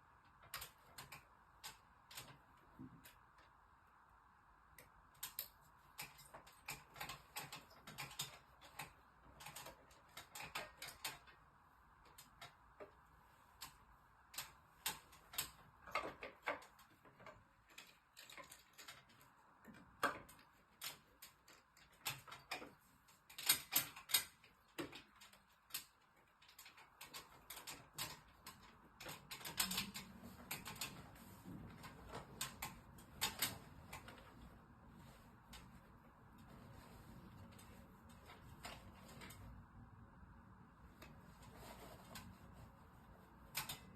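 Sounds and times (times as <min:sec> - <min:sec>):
faint steady hum: 0:00.0 - 0:43.9
tools clicking and tapping: 0:04.8 - 0:39.6, 0:43.4 - 0:43.9.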